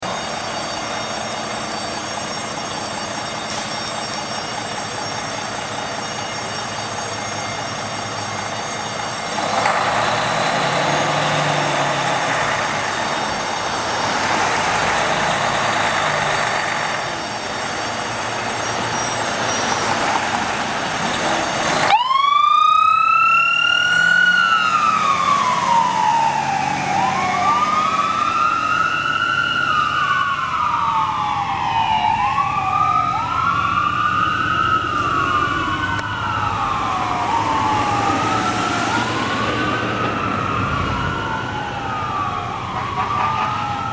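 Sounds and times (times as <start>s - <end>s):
engine and road noise rumble: 0.0s - 43.9s
fire engine siren wailing: 0.0s - 43.9s.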